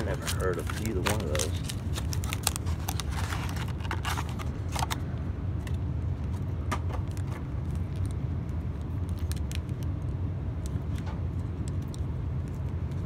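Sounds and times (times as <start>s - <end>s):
card packaging crinkling and tearing: 0.0s - 5.8s, 6.4s - 13.0s
steady low hum: 0.0s - 13.0s.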